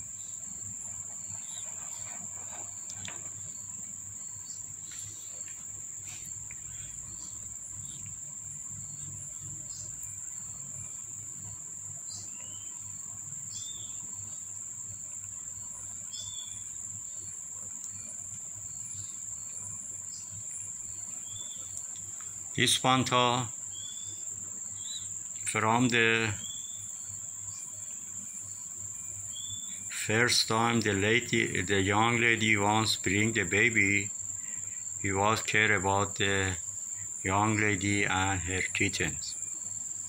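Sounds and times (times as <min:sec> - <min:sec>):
insect chirring: 0:00.0 - 0:40.0.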